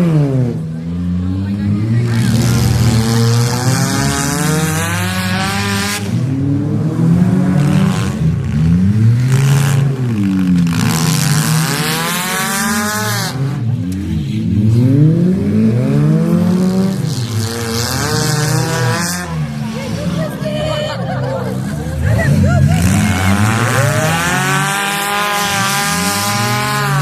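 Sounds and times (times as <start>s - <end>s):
racing car engines revving: 0.0s - 27.0s.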